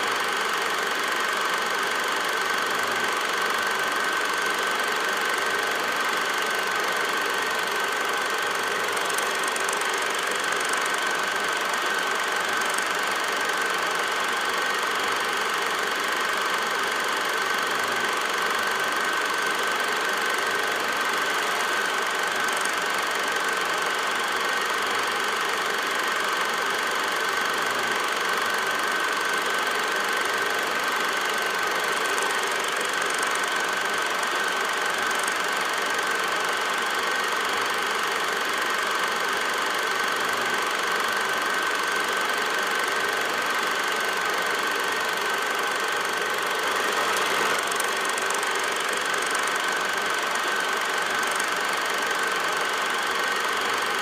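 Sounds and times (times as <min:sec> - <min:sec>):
film projector whirring: 0:00.0 - 0:54.0.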